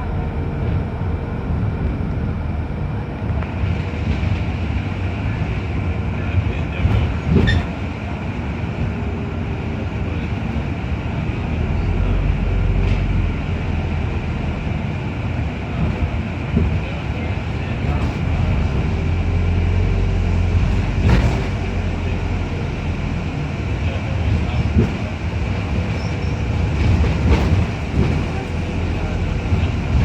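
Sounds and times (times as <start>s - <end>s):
bus body rattling: 0.0s - 30.0s
bus engine and road rumble: 0.0s - 30.0s.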